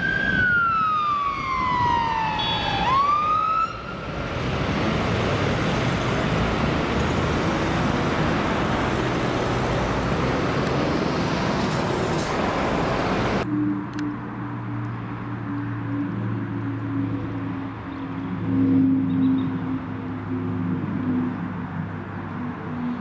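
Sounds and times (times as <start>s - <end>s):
road traffic noise: 0.0s - 23.0s
turboprop aircraft drone overhead: 0.0s - 23.0s.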